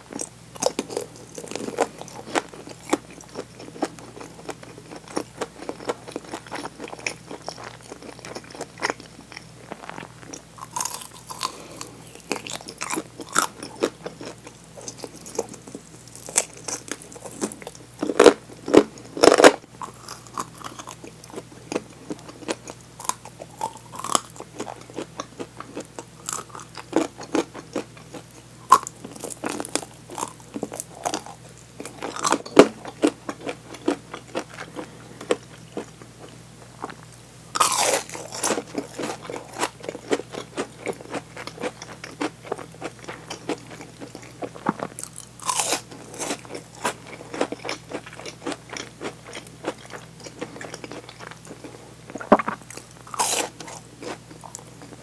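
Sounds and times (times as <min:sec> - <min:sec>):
crunchy chewing of fried chicken: 0:00.0 - 0:55.0.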